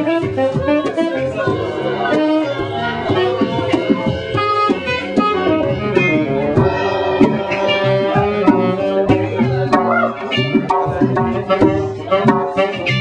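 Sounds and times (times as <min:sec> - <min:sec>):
electric bass: 0:00.0 - 0:13.0
saxophone holding notes: 0:00.0 - 0:13.0.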